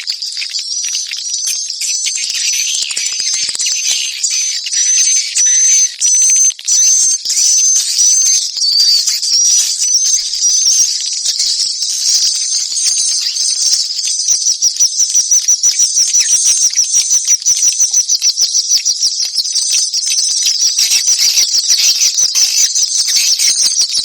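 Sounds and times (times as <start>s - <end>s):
recorded swiftlet chattering twitter: 0.0s - 24.0s.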